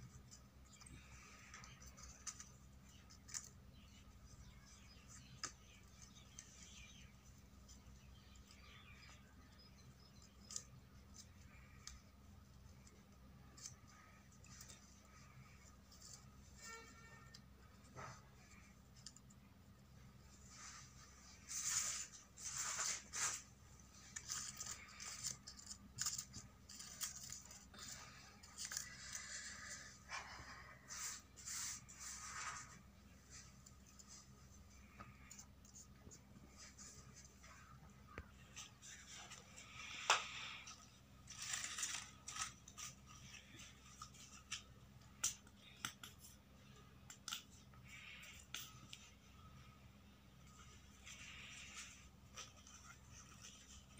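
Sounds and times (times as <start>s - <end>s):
faint low hum: 0.0s - 53.9s
paper rustling: 0.1s - 49.6s.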